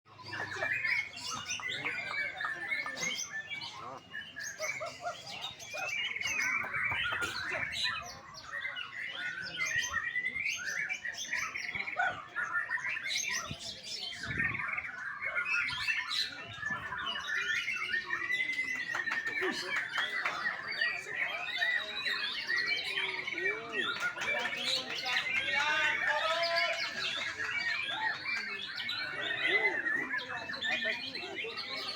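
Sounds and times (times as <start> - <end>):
songbird chirping and twittering: 0.1 - 31.9.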